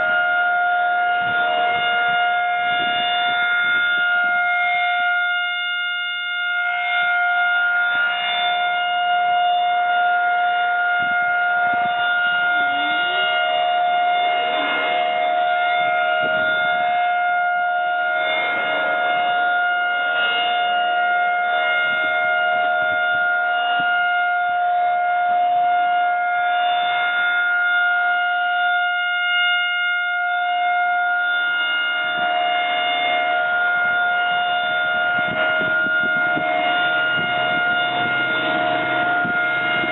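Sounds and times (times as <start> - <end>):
rotating siren steady tone: 0.0 - 39.9.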